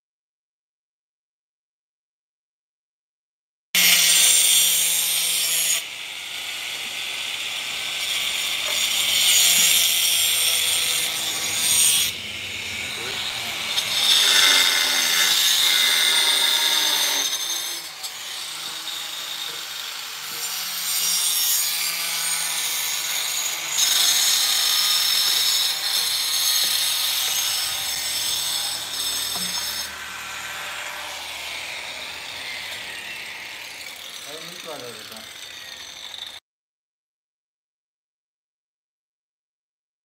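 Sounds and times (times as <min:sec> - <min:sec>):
angle grinder cutting plastic pipe: 0:03.8 - 0:36.4.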